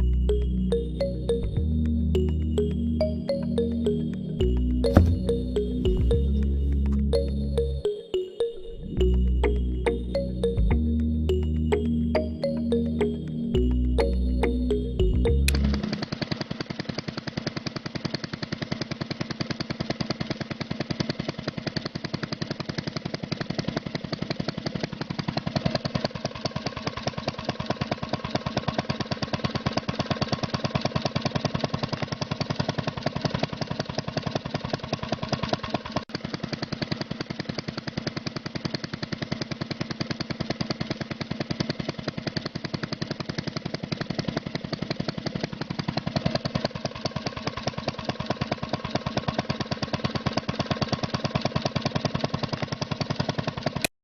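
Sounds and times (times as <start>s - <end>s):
small tractor engine running: 0.0s - 7.9s, 9.0s - 53.9s.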